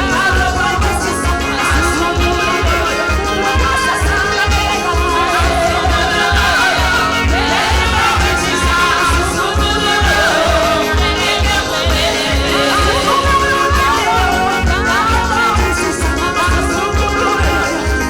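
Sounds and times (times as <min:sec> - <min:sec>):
fast bass beat: 0:00.0 - 0:18.0
gospel singing: 0:00.0 - 0:18.0.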